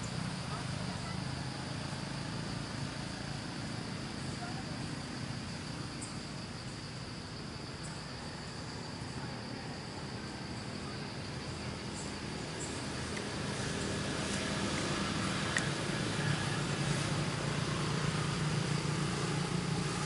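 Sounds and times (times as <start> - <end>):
jungle insects droning: 0.0 - 20.0.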